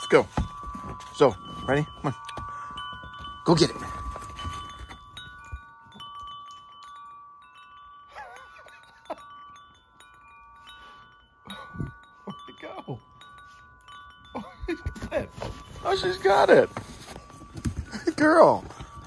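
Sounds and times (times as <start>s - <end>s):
bell-like ringing tones: 0.0s - 19.0s.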